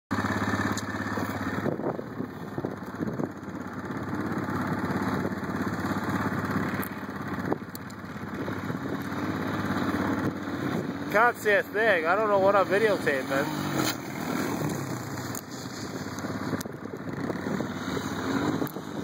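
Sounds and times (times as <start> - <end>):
motorcycle engine revving: 0.1 - 19.0.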